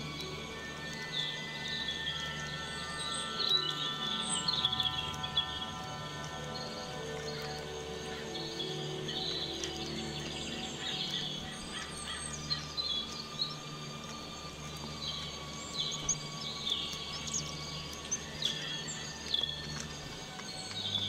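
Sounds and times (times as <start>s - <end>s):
ambient music: 0.0s - 21.0s
birds chirping: 0.0s - 21.0s.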